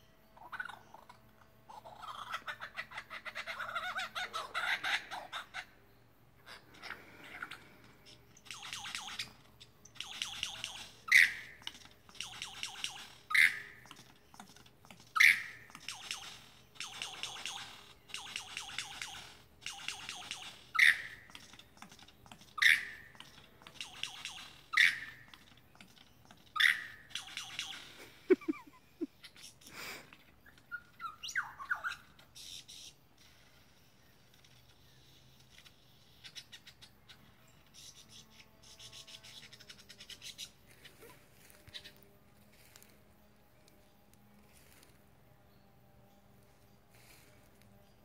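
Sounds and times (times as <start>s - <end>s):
lyrebird singing: 0.0s - 33.0s, 34.0s - 42.9s.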